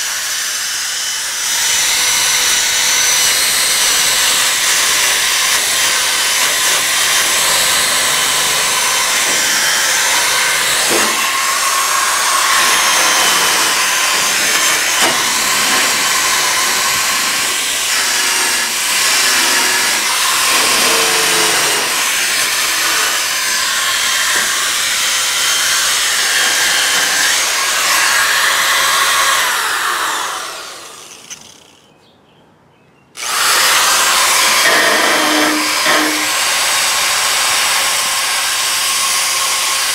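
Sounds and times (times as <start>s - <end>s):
electric drill running: 0.0s - 31.8s, 33.2s - 39.9s.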